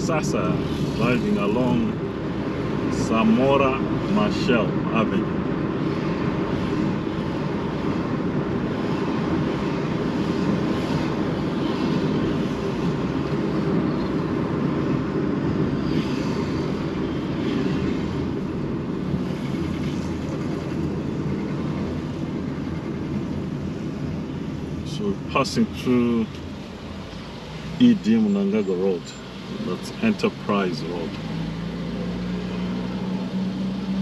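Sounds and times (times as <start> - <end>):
car engine: 0.0 - 34.0.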